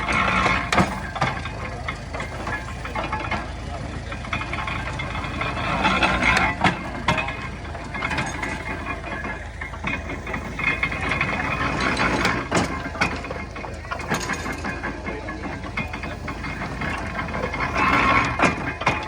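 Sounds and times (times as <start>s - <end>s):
baler mechanism clanking: 0.0s - 19.0s
engine running steadily: 0.0s - 19.0s.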